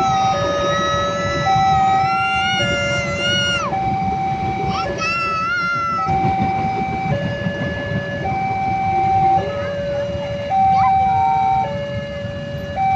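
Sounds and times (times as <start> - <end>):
two-tone electronic siren: 0.0 - 12.9.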